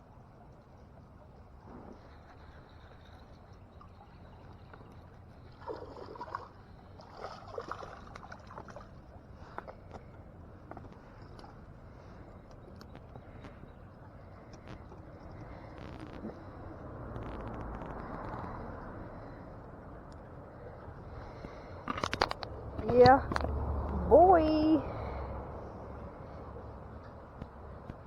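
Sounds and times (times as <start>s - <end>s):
creek water running: 0.0s - 28.0s
water splashing and sloshing: 0.0s - 28.0s.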